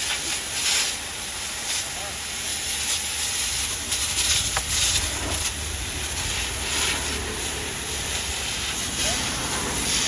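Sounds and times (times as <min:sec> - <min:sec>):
high-pressure water jet spraying: 0:00.0 - 0:10.0
low steady rumble: 0:00.0 - 0:10.0.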